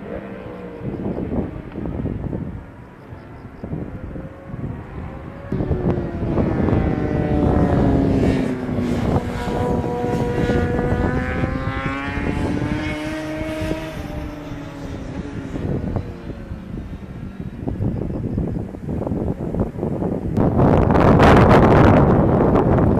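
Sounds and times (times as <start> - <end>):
race cars passing: 0.0 - 22.9.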